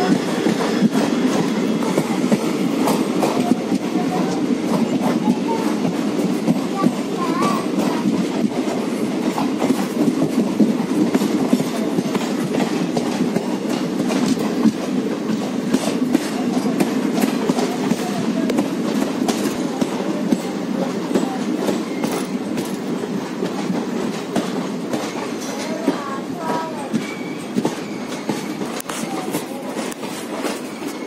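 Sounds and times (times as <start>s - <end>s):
clicks and rattles of train: 0.0s - 31.0s
train wheels rumbling on rail: 0.0s - 31.0s.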